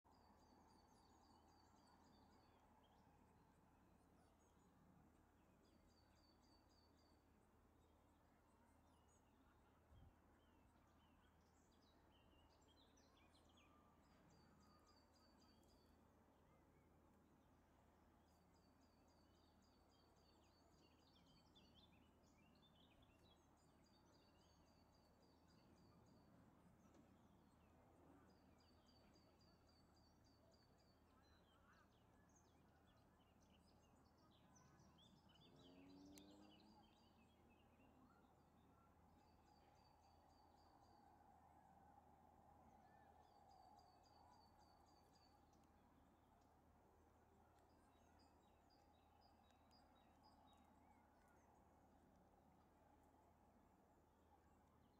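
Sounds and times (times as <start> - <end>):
low steady hum: 0.1 - 54.9.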